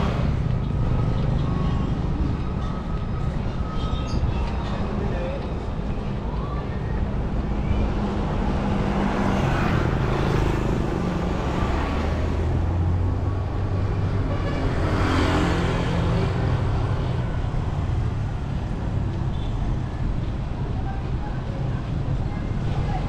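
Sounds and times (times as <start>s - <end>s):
engine hum of traffic: 0.0s - 23.0s
vehicles passing by: 0.0s - 23.0s.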